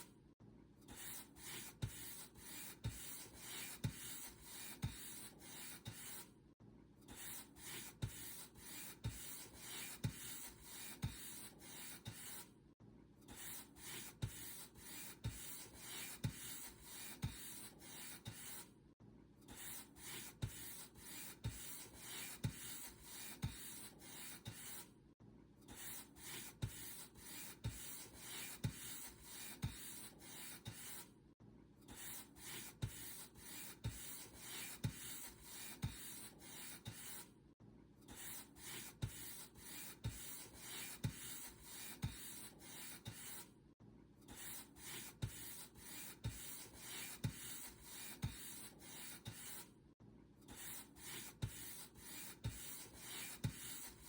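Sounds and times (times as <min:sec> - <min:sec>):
paint brush strokes on surface: 0:01.0 - 0:06.2, 0:07.2 - 0:12.5, 0:13.4 - 0:18.7, 0:19.6 - 0:24.9, 0:25.8 - 0:31.1, 0:31.9 - 0:37.3, 0:38.1 - 0:43.5, 0:44.3 - 0:49.7, 0:50.5 - 0:54.0.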